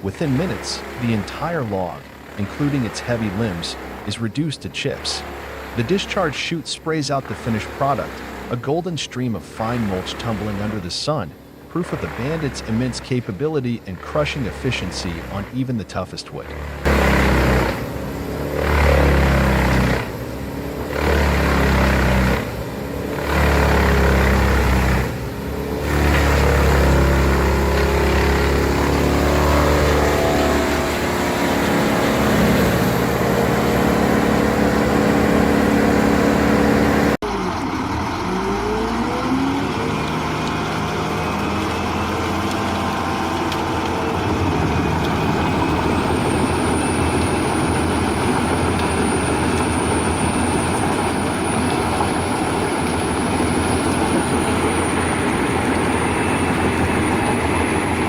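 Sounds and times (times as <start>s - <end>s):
wood chipper chipping log: 0.0s - 58.0s.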